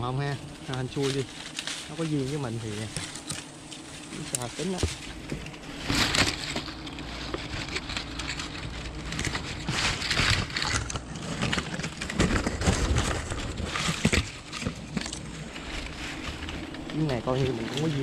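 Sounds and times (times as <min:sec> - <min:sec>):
twigs and dry leaves crackling: 0:00.0 - 0:18.0.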